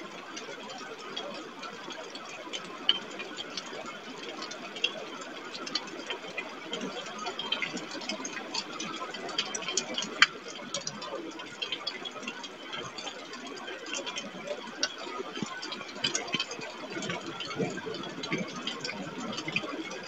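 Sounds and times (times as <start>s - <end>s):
raindrops ticking: 0.0s - 20.0s.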